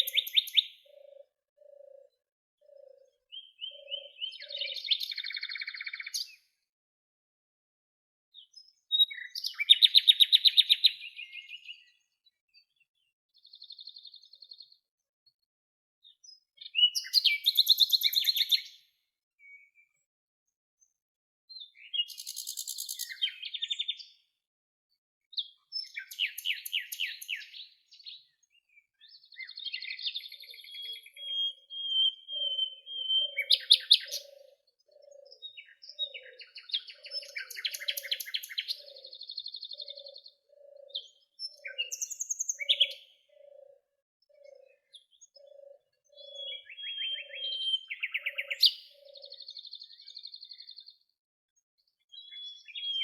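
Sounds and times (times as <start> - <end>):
songbirds chirping and trilling: 0.0 - 6.8, 8.3 - 53.0.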